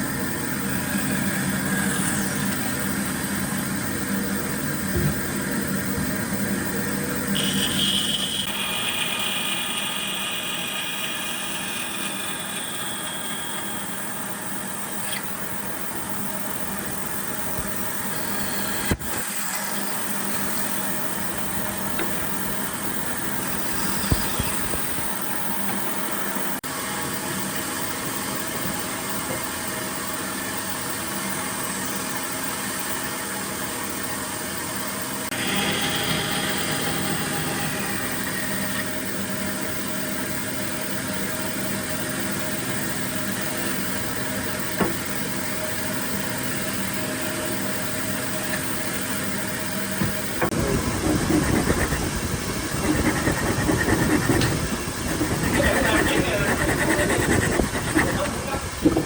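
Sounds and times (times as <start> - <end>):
machine motor humming: 0.0 - 26.6, 35.3 - 59.0.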